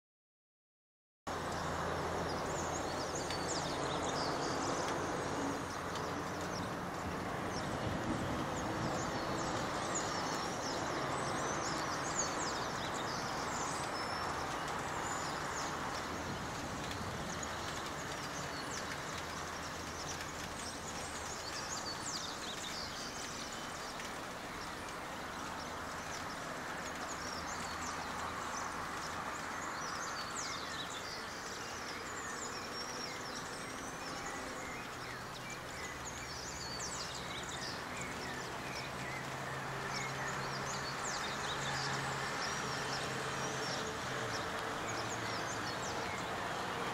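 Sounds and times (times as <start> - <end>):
small birds chirping: 1.3 - 46.9
steady outdoor hiss: 1.3 - 46.9.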